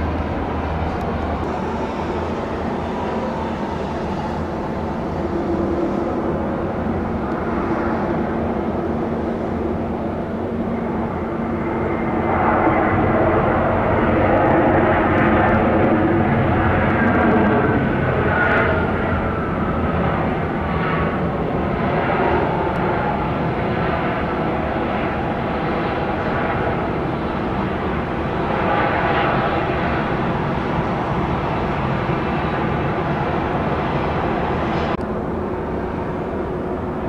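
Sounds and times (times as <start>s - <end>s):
jet engine noise: 0.0s - 37.0s.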